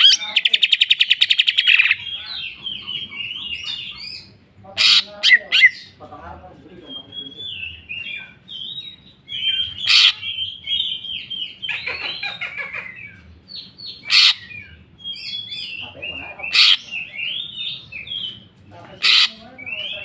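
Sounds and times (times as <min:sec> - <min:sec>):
bird singing chirps and warbles: 0:00.0 - 0:06.0, 0:06.7 - 0:20.0.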